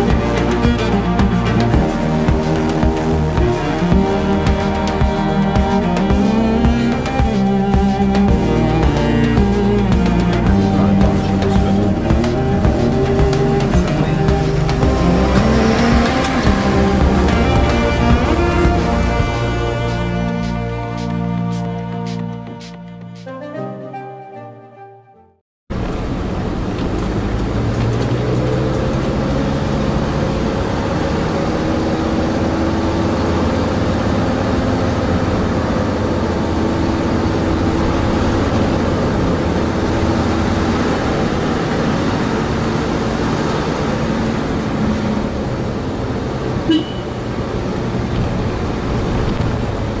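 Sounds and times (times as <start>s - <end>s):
diesel engine drone: 0.0s - 23.3s, 25.7s - 50.0s
road noise: 0.0s - 23.6s, 25.7s - 50.0s.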